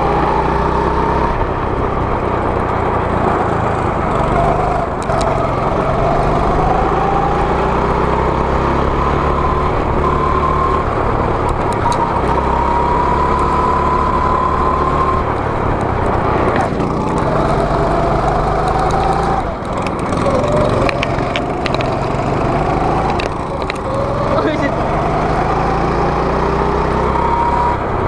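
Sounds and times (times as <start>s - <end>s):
go-kart engine revving: 0.0s - 28.0s.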